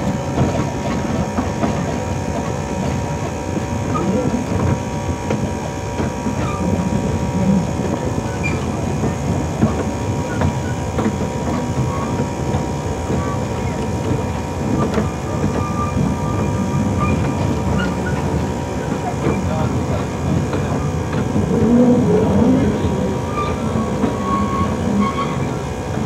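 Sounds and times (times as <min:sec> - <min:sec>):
locomotive hum: 0:00.0 - 0:26.0
wheels clicking over rails: 0:00.0 - 0:26.0.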